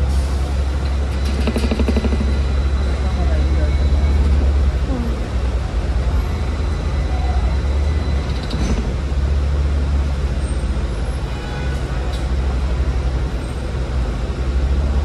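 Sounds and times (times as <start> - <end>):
road traffic: 0.0 - 15.0
tram rumbling on rails: 0.0 - 15.0.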